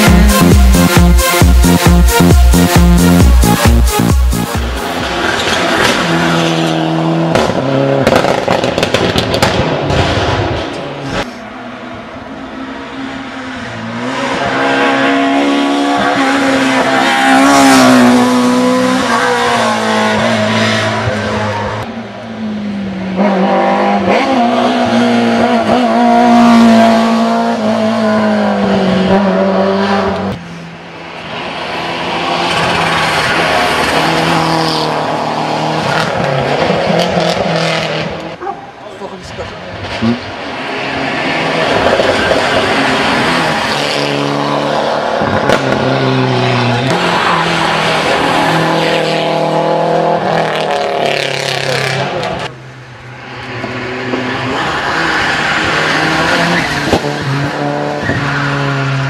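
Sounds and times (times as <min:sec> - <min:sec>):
rally car engines revving: 0:00.0 - 0:59.0.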